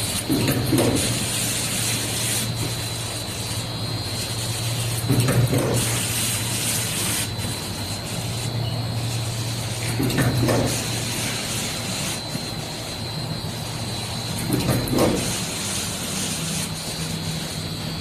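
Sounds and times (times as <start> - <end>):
machine humming and whining: 0.0 - 18.0.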